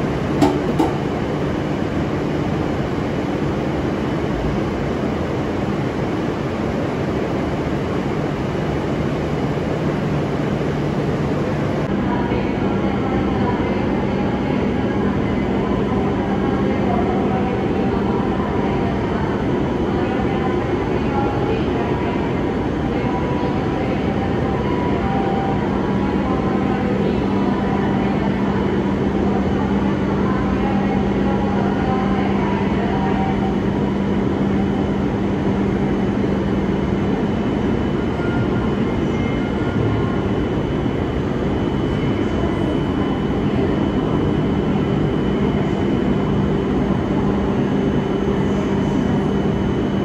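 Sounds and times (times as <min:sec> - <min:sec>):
train equipment humming: 0:00.0 - 0:50.0.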